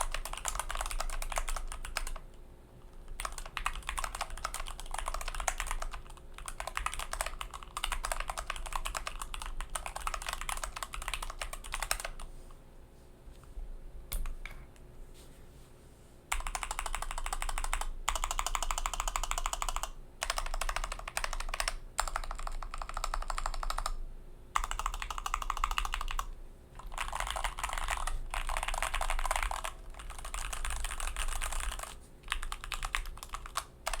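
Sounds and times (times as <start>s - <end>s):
keyboard typing: 0.0s - 2.2s, 3.1s - 12.3s, 16.3s - 24.0s, 24.6s - 34.0s.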